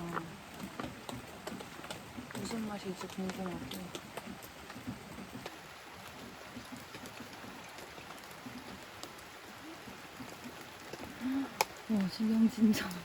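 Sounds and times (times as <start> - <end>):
single raindrops tapping: 0.0 - 13.0
steady rain falling: 0.0 - 13.0.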